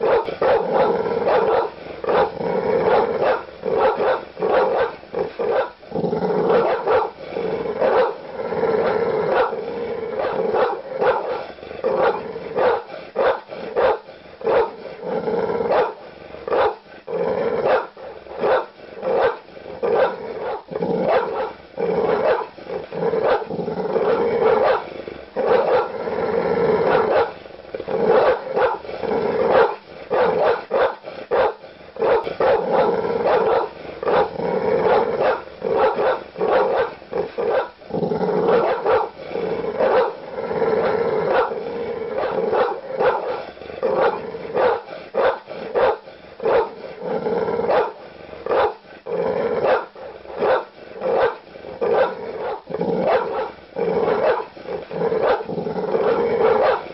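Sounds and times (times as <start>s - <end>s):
dogs growling: 0.0s - 56.9s
large dogs barking: 0.0s - 56.9s.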